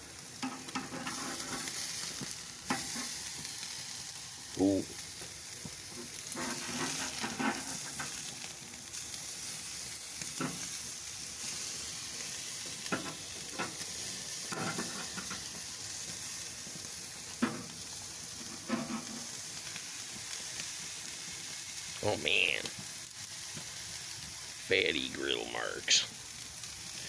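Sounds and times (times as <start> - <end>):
steaks sizzling on grill: 0.0 - 27.0.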